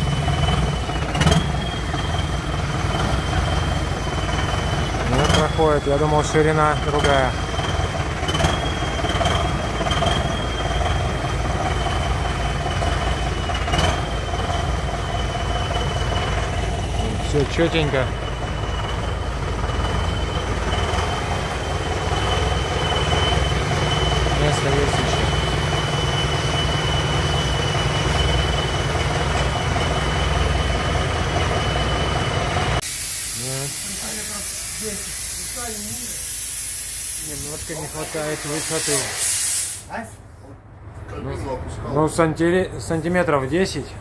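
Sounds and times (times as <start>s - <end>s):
steady high whine: 0.0s - 36.1s
tractor diesel engine running: 0.0s - 39.1s.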